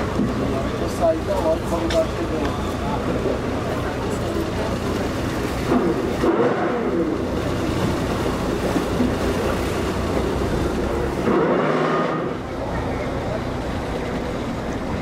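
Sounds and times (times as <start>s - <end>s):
speedboat engine running: 0.0s - 15.0s
water rushing along hull: 0.0s - 15.0s.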